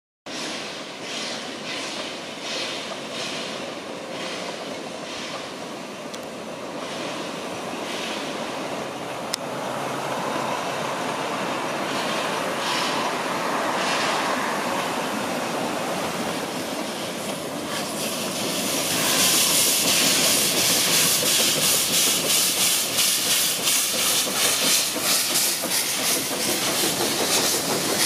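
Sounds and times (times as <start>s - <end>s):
steam locomotives chuffing: 0.3s - 28.0s.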